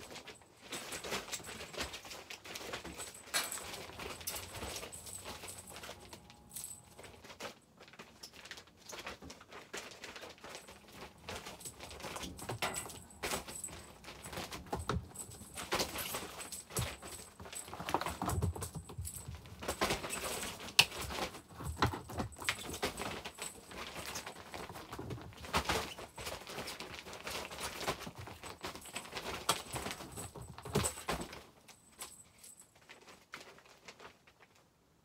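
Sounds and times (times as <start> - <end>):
bedding rustling: 0.0 - 34.6.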